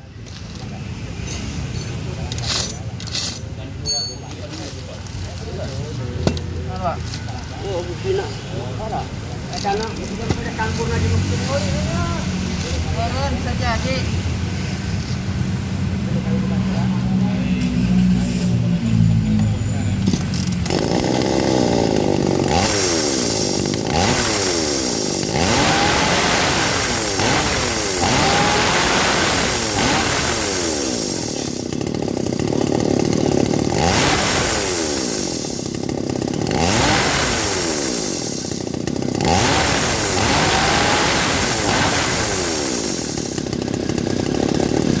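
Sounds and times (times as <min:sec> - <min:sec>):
chainsaw engine revving: 0:01.9 - 0:03.4, 0:04.6 - 0:45.0.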